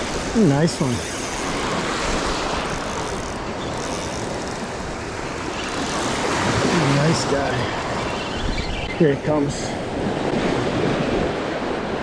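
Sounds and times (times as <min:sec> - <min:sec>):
lake waves breaking on shore: 0:00.0 - 0:12.0.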